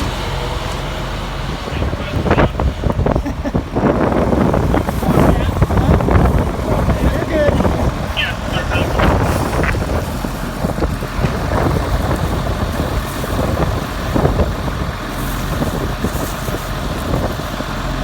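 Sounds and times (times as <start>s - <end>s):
vehicle engine rumble: 0.0s - 18.0s
wind buffeting microphone: 0.0s - 18.0s.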